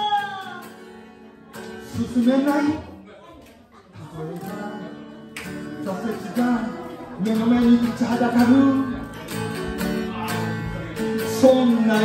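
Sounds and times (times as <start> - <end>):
acoustic guitar strummed and picked: 0.0 - 3.0, 4.0 - 12.0.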